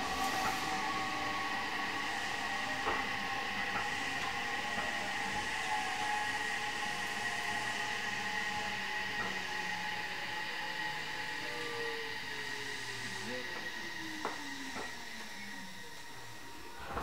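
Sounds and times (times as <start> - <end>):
electric train running hum: 0.0 - 17.0.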